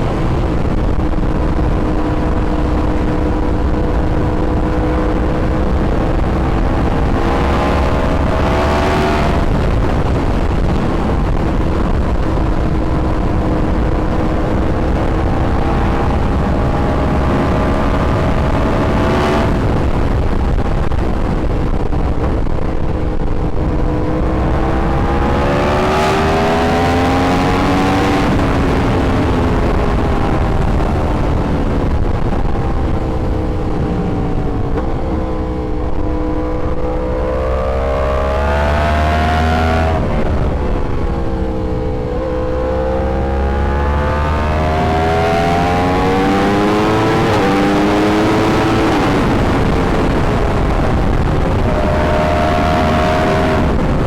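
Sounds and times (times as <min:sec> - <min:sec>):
motorcycle engine revving: 0:00.0 - 0:54.0
wind rumble: 0:00.0 - 0:54.0.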